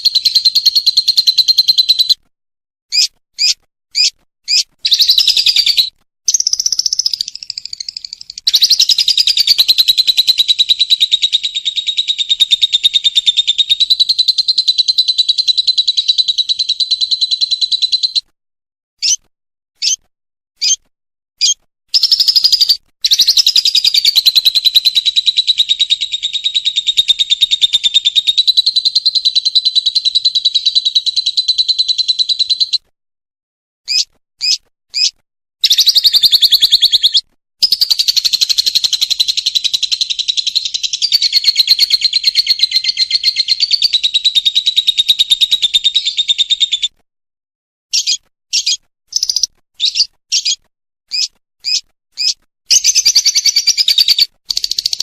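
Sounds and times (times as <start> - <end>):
lovebird trilling: 2.9 - 18.2, 19.0 - 19.2, 19.8 - 20.0, 20.6 - 20.8, 21.4 - 32.8, 33.9 - 46.9, 47.9 - 55.0
bird short chirps: 2.9 - 18.3, 19.0 - 19.2, 19.8 - 20.0, 20.6 - 20.8, 21.4 - 32.8, 33.9 - 47.0, 47.9 - 55.0.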